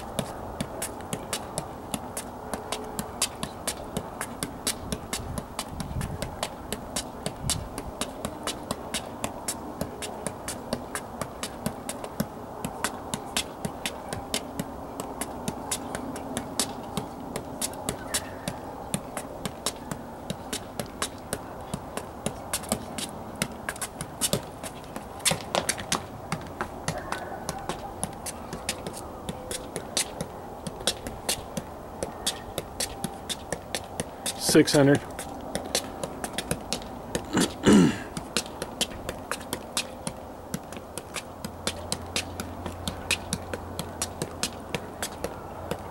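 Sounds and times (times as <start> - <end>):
ball taps on foot: 0.2 - 45.8.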